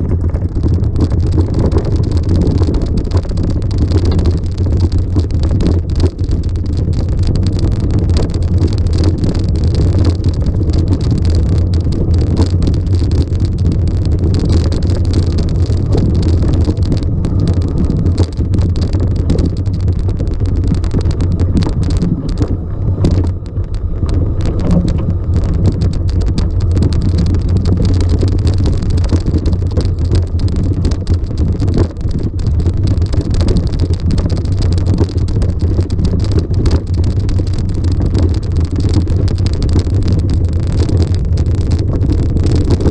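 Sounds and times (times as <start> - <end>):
vehicle engine drone: 0.0 - 42.9.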